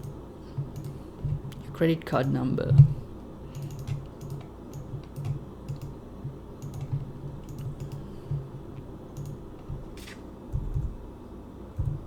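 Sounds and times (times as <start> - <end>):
keyboard typing: 0.0 - 2.9, 3.5 - 6.0, 6.6 - 11.0.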